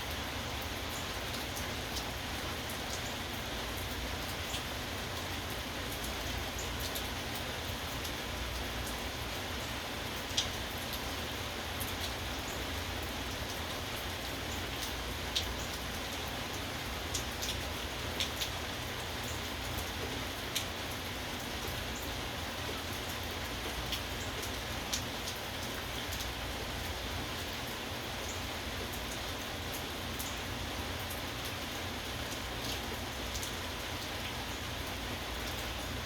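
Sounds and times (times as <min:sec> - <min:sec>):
steady rain: 0:00.0 - 0:36.0
raindrops ticking: 0:00.1 - 0:09.3, 0:10.1 - 0:36.0.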